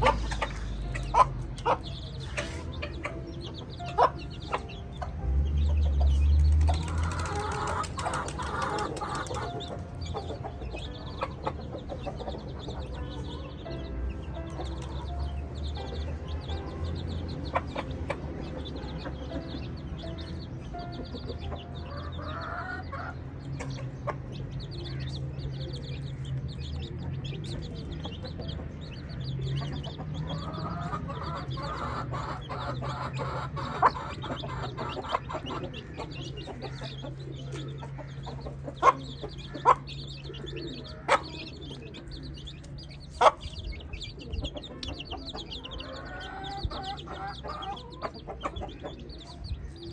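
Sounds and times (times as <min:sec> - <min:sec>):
hens clucking: 0:00.0 - 0:06.0, 0:06.6 - 0:25.0, 0:25.6 - 0:49.9
chicks cheeping: 0:00.0 - 0:49.9.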